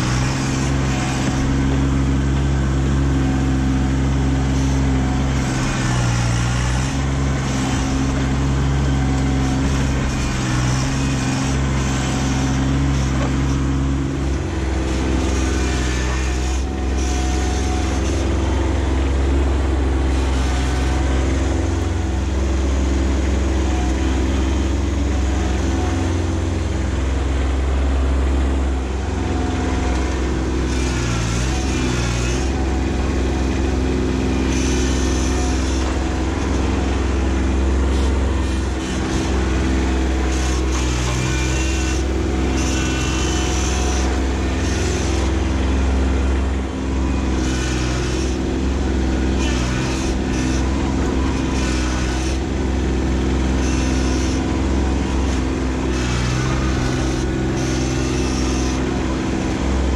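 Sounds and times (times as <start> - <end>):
loader digging soil: 0.0 - 59.9
tractor diesel engine running: 0.0 - 59.9.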